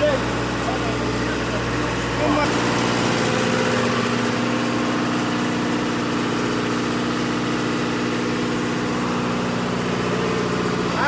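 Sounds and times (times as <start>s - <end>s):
generator machinery drone: 0.0s - 11.0s.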